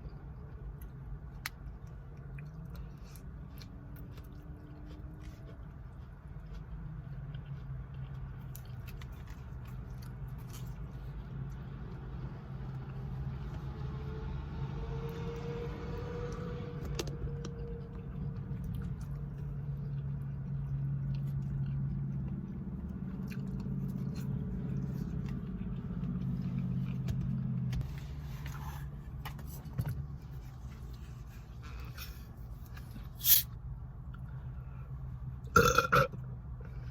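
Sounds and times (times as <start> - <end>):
chewing and biting food: 0.0 - 13.7, 17.2 - 33.2.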